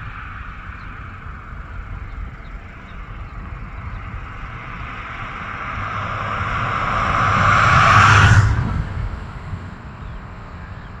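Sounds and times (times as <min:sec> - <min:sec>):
vehicle passing by: 0:01.8 - 0:10.7.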